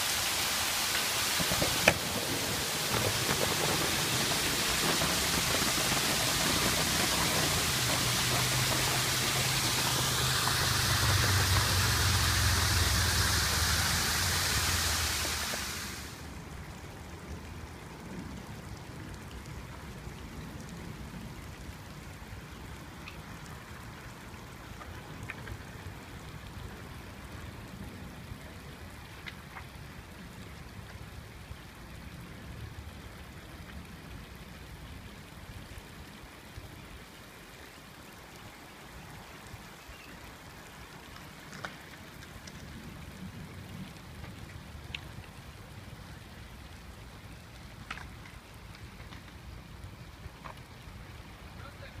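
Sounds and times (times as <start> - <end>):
fountain water splashing: 0.0 - 52.0.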